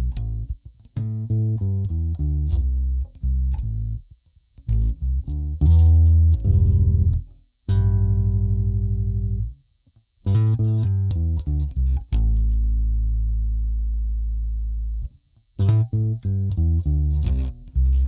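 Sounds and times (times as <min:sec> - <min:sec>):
electric bass plucked notes: 0:00.0 - 0:09.6, 0:10.2 - 0:18.0.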